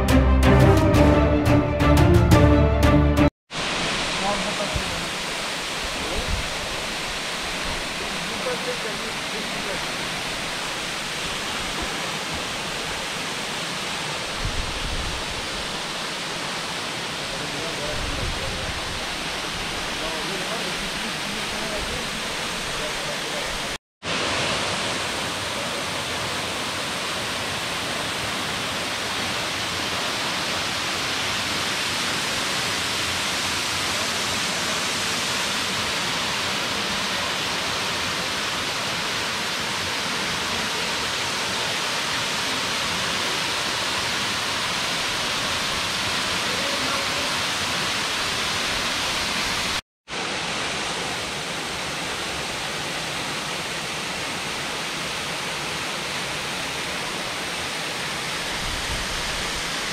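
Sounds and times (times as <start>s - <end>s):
waterfall rushing: 3.5s - 59.9s.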